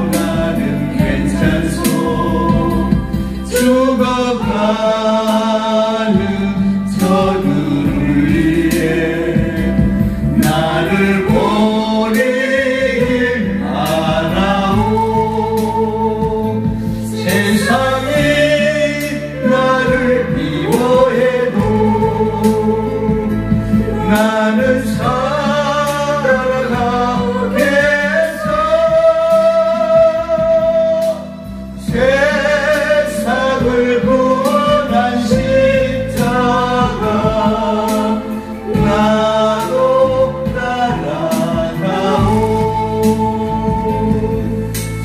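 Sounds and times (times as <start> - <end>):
man singing: 0.0 - 45.0
recorded accompaniment with bass: 0.0 - 45.0.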